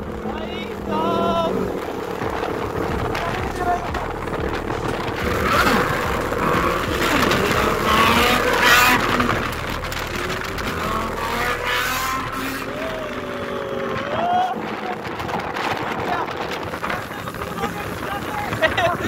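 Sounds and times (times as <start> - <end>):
motorcycle engines revving: 0.0 - 19.0
wind rush: 0.0 - 19.0.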